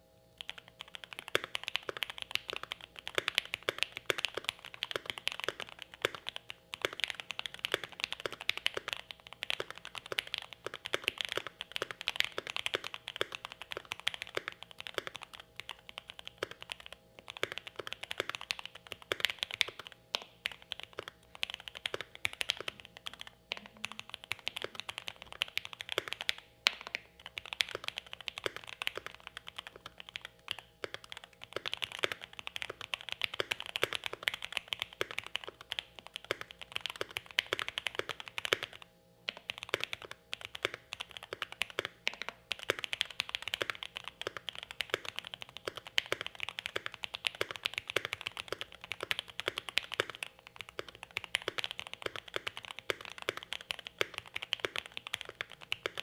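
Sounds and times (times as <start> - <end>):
muted mechanical keyboard typing: 0.4 - 56.0.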